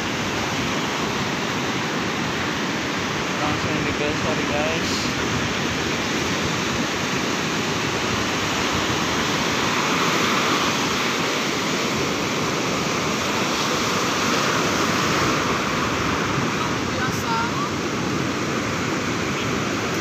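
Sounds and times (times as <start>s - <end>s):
sea surf breaking on beach: 0.0s - 20.0s.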